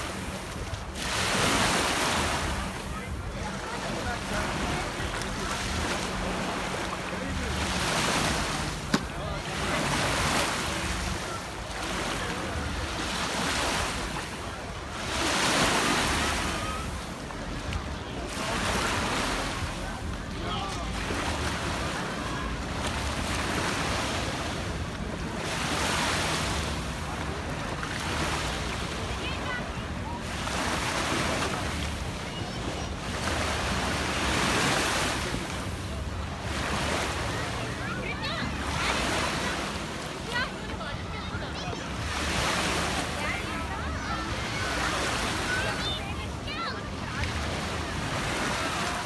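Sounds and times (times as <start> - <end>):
water splashing around kayak: 0.0 - 49.0.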